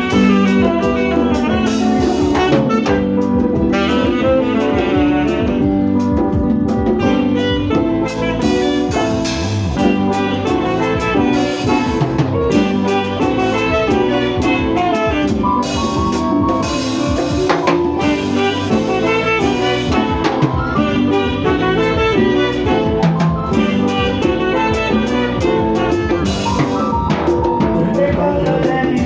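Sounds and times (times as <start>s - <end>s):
drum kit: 0.0s - 29.0s
saxophone playing: 0.0s - 29.0s.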